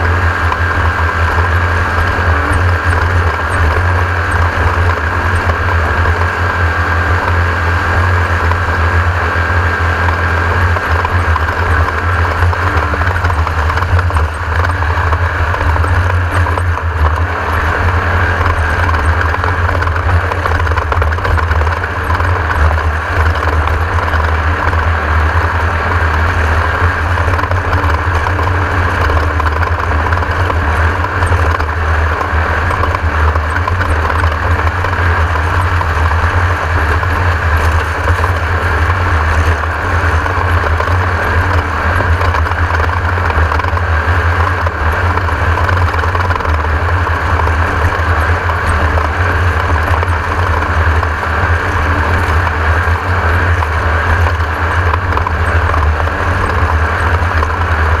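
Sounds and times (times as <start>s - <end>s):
race car engine droning: 0.0s - 58.0s.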